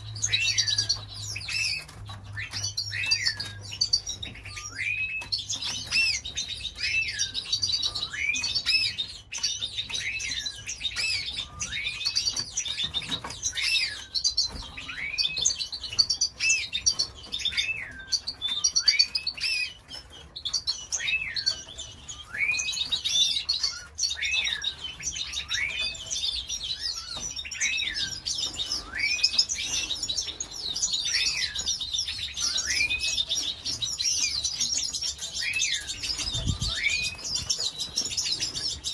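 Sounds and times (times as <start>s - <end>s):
canaries chirping and twittering: 0.0s - 38.9s.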